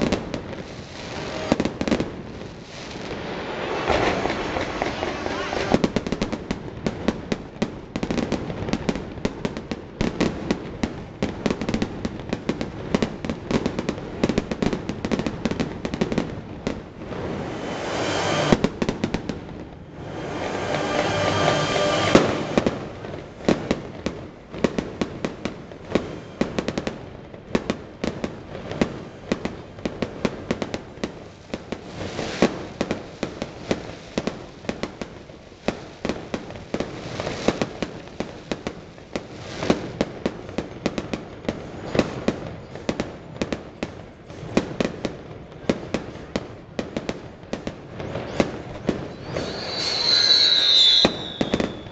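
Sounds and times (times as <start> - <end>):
fireworks crackling hiss: 0.0 - 42.5, 47.9 - 51.9
fireworks bangs and pops: 0.0 - 51.9.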